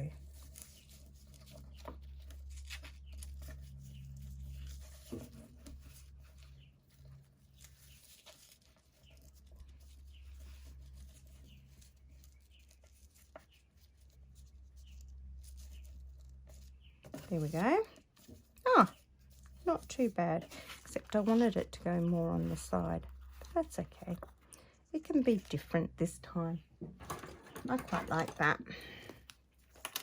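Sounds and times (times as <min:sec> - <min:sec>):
ribbon rustling: 0:00.0 - 0:26.1, 0:27.0 - 0:30.0.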